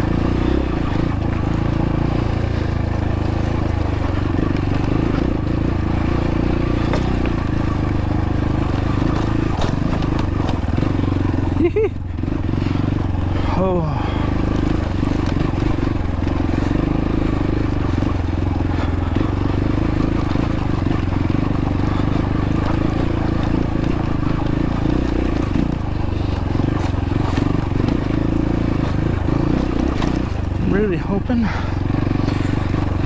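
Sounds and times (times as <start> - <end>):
dirt bike engine running: 0.0 - 33.0.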